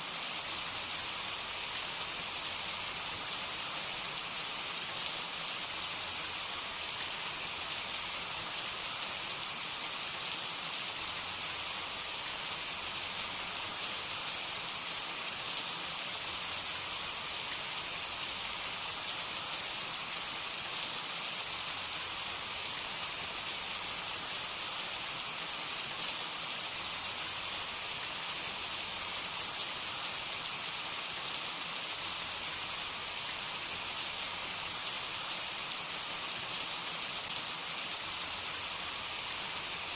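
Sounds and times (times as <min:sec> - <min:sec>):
oil sizzling in a pan: 0:00.0 - 0:39.9.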